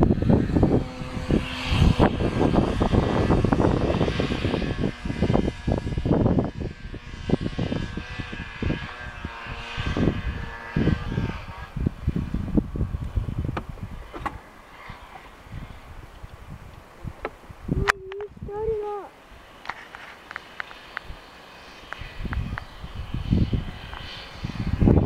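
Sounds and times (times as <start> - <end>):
snowmobile engine running: 0.0 - 25.0
wind buffeting microphone: 0.0 - 25.0.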